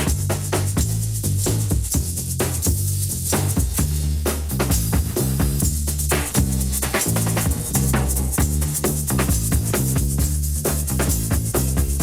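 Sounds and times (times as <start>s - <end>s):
breakbeat drum pattern: 0.0s - 12.0s
deep bass line: 0.0s - 12.0s.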